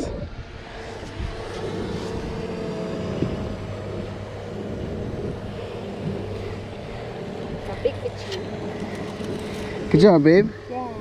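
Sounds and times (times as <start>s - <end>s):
motor droning: 0.0s - 11.0s
wind noise: 0.0s - 11.0s.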